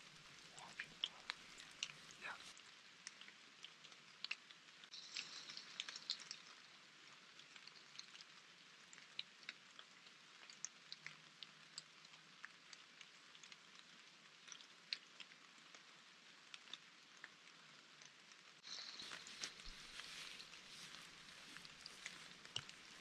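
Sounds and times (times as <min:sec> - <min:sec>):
faint raindrop ticks: 0:00.0 - 0:23.0.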